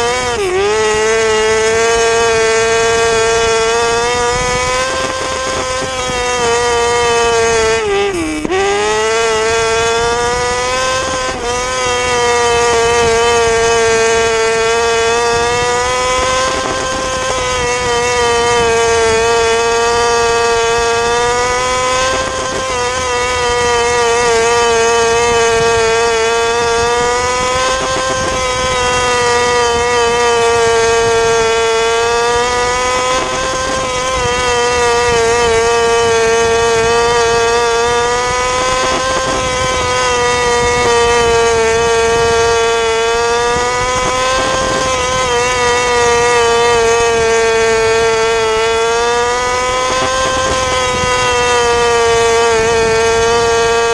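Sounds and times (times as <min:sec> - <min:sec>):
motorcycle engine running hard: 0:00.0 - 0:53.9.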